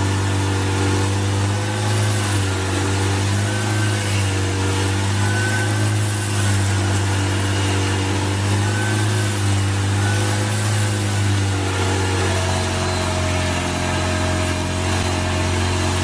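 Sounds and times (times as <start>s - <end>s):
engine deep drone: 0.0s - 16.0s.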